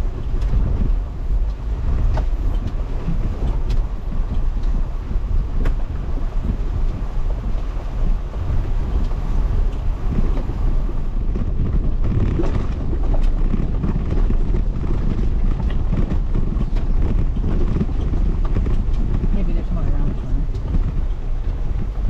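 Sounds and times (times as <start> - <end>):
knocks and rattles of truck: 0.0 - 22.0
truck engine low rumble: 0.0 - 22.0
wind buffeting microphone: 0.0 - 22.0.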